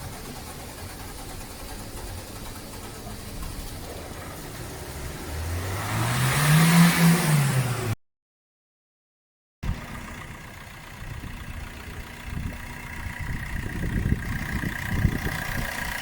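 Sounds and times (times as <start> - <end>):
car engine idling and revving: 0.0 - 8.0, 9.6 - 16.0.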